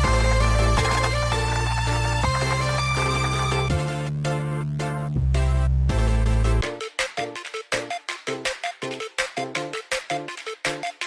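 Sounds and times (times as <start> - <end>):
electronic music with synth chords: 0.0 - 11.0.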